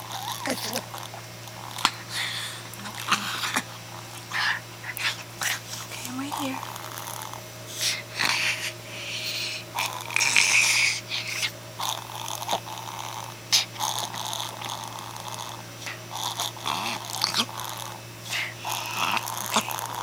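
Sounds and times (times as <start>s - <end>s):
dog laboured breathing: 0.0s - 20.0s.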